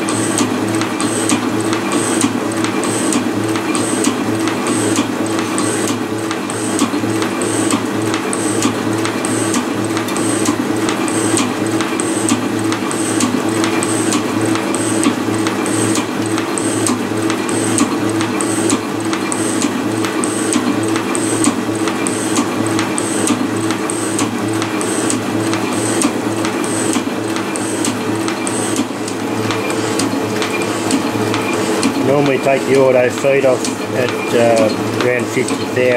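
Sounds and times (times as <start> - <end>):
milling machine humming: 0.0 - 35.9.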